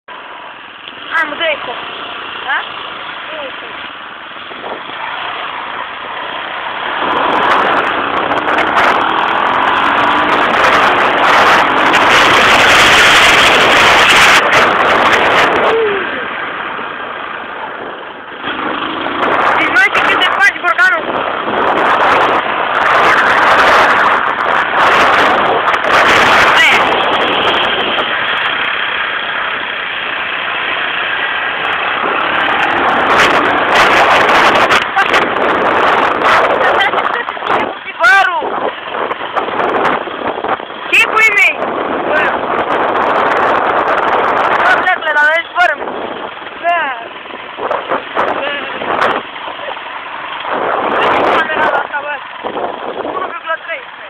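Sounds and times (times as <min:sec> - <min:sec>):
atv engine running: 0:00.1 - 0:54.0
rushing noise: 0:00.1 - 0:54.0.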